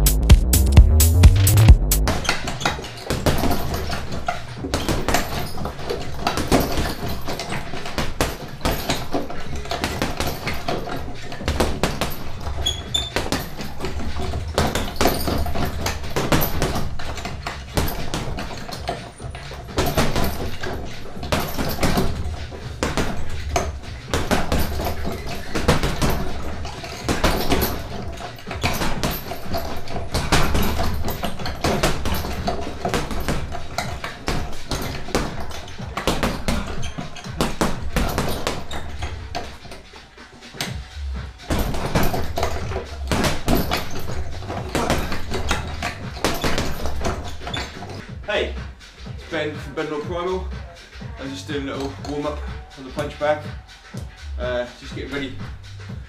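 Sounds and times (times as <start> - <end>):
gloves punching heavy bag: 0.0 - 54.2.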